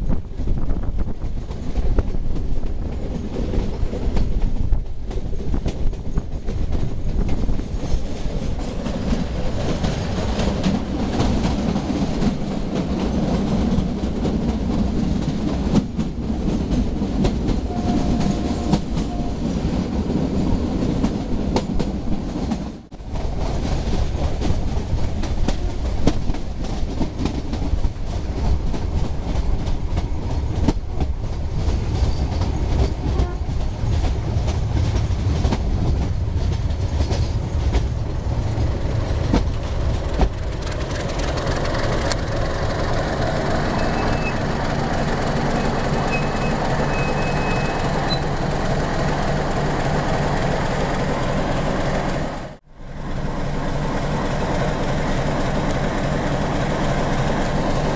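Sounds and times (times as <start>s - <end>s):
train rumble: 0.0s - 57.9s
wheels clattering over rail joints: 0.3s - 52.6s.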